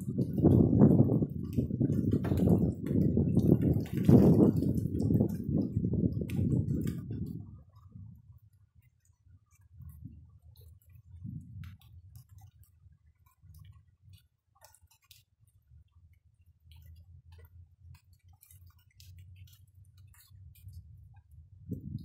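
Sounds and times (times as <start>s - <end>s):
low steady rumble: 0.0s - 14.6s, 15.3s - 22.0s
rainwater dripping on leaves: 0.0s - 22.0s.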